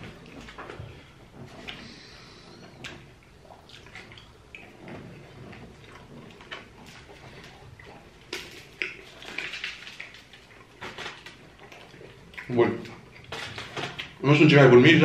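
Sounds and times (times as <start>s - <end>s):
chewing: 0.0s - 14.2s.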